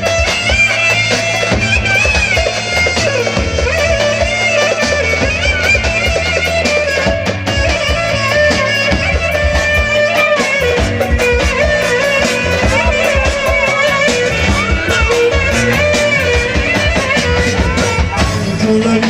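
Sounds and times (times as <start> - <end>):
ornamented lead melody: 0.0 - 19.0
regular drum beat: 0.0 - 19.0
steady bass notes: 0.0 - 19.0.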